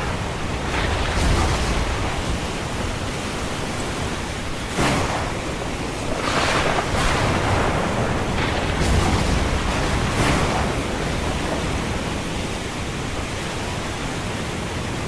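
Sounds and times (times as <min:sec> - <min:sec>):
wave breaking: 0:00.0 - 0:14.8
ocean surf washing on shore: 0:00.0 - 0:15.0.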